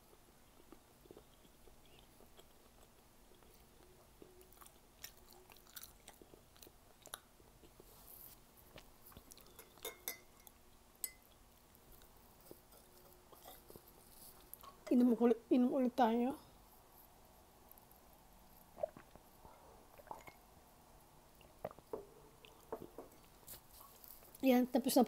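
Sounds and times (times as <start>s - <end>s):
faint chewing: 0.0s - 14.9s, 16.6s - 20.4s, 21.4s - 24.4s.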